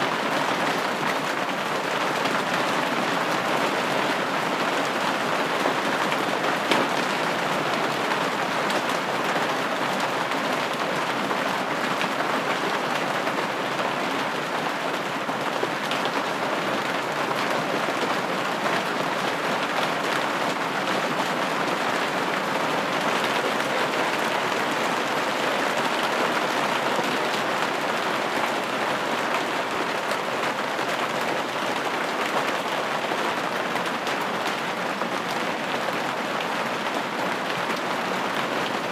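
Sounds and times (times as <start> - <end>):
rain pattering on a window: 0.1 - 38.9.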